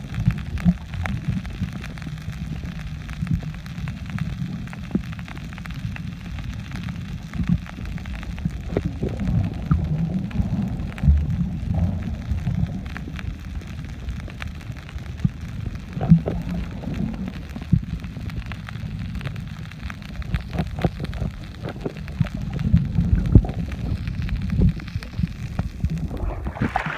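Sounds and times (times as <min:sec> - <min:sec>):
underwater clicks and crackles: 0:00.0 - 0:26.9
underwater rumble of moving water: 0:00.0 - 0:26.9.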